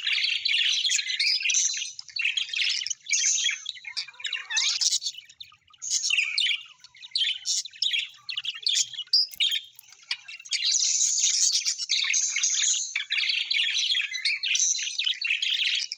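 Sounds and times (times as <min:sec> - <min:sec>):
birds chirping and chattering: 0:00.0 - 0:15.9.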